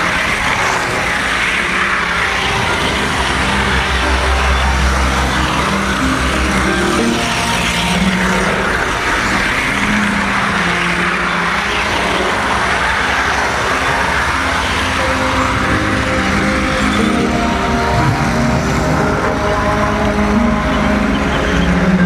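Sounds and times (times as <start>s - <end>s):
wheels rumbling on rails: 0.0s - 22.0s.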